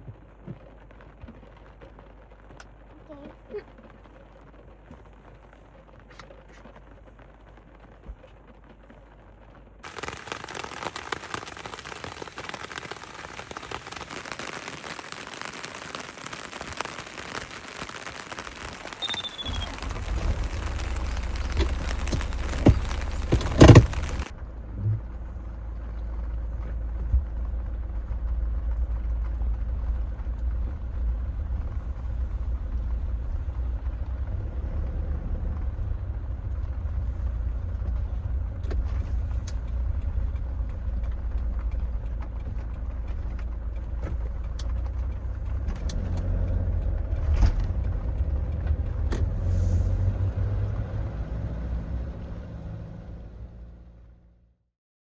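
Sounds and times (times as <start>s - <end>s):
vehicle rumble: 0.0s - 54.5s
rain hissing: 0.8s - 53.9s.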